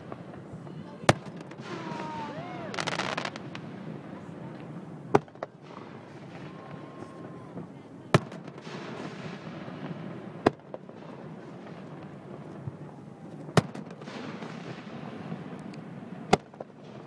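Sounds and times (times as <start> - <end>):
distant fireworks bursts and crackle: 0.0 - 17.0
fireworks bangs: 0.0 - 17.0.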